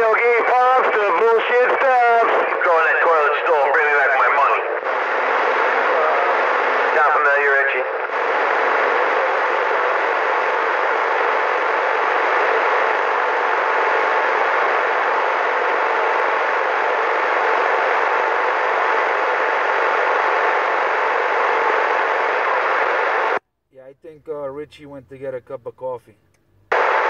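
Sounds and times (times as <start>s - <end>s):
radio static hiss: 0.0s - 23.4s, 24.0s - 27.0s.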